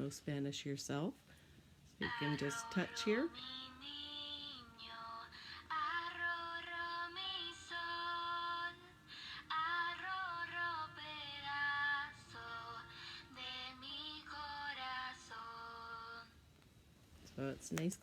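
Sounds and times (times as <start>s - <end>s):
woman singing over backing tune: 2.0s - 16.4s.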